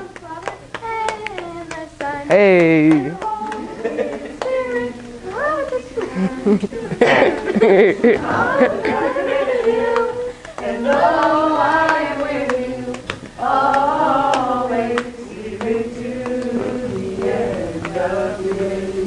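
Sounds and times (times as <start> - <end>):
voices singing long notes: 0.8 - 19.0.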